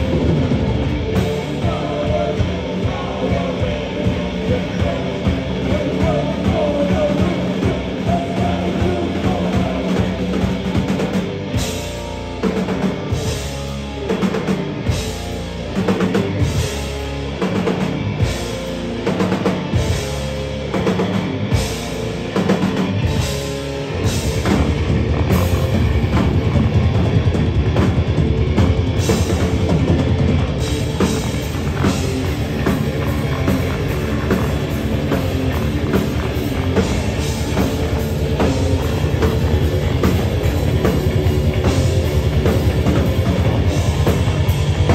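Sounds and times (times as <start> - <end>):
heavy rock band playing: 0.0 - 44.9.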